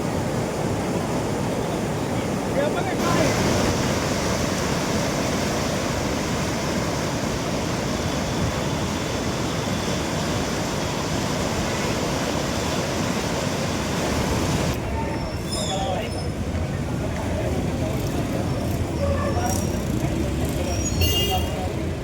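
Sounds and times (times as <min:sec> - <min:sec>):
flooded river water rushing: 0:00.0 - 0:17.8.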